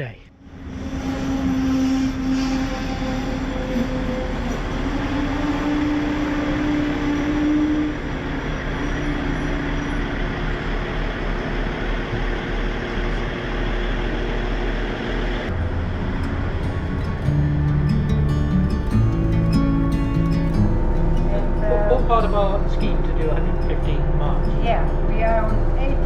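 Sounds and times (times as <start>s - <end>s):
train hum: 0.0s - 26.0s
train rail rumble: 0.0s - 26.0s.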